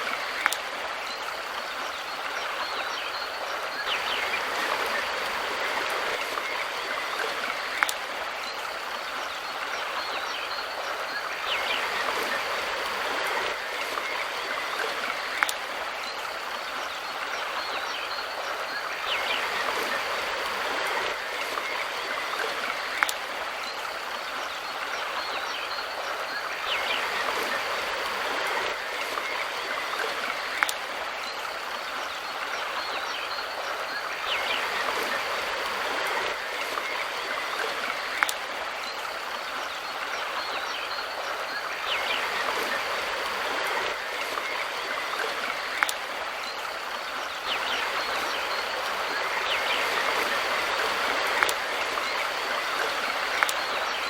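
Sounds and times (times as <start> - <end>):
bird chirps: 0.0 - 54.0
river water flowing: 0.0 - 54.0.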